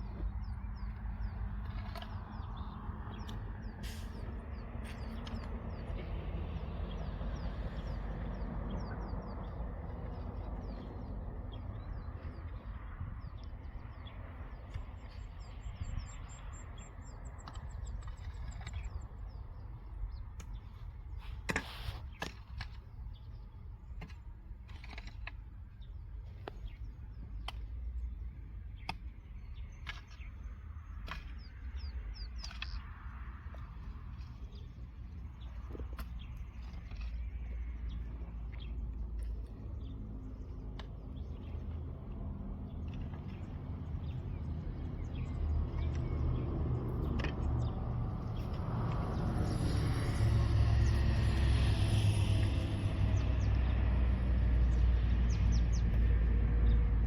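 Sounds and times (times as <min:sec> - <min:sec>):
wind rumble on microphone: 0:00.0 - 0:24.7, 0:25.4 - 0:57.0
birds chirping: 0:00.0 - 0:53.7.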